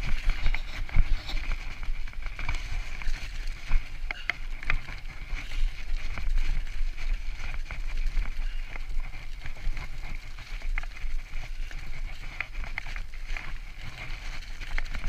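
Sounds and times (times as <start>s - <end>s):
bike rattling: 0.0s - 15.0s
bike tyres on snow and slush: 0.0s - 15.0s.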